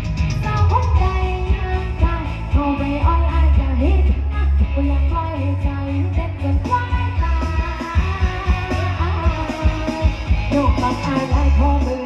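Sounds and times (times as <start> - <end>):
loud music through outdoor speakers: 0.0 - 12.0.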